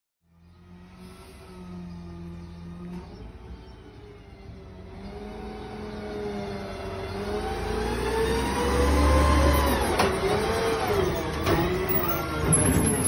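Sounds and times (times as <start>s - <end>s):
garbage truck diesel engine: 0.3s - 13.0s.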